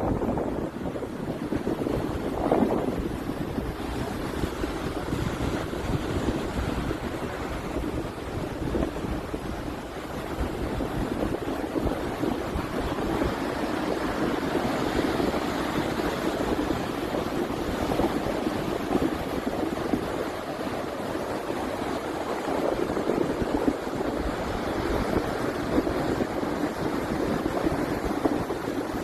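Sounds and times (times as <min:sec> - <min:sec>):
ocean surf: 0:00.0 - 0:29.0
wind buffeting microphone: 0:00.0 - 0:29.0.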